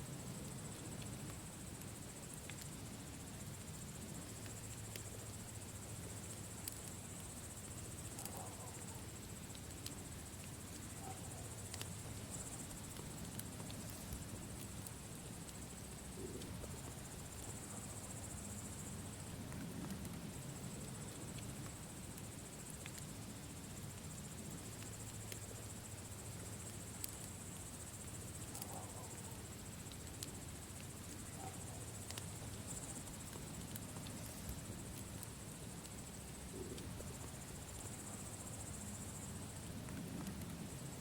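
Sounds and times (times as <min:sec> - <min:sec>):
crickets chirping: 0:00.0 - 0:41.0
campfire crackling and popping: 0:00.2 - 0:41.0.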